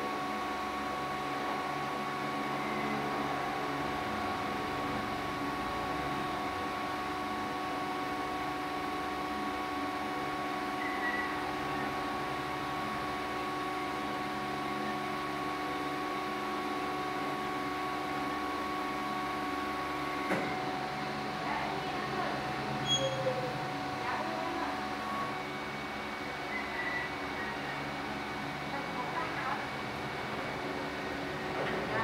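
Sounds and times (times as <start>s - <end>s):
heat press machine hum: 0.0s - 32.0s.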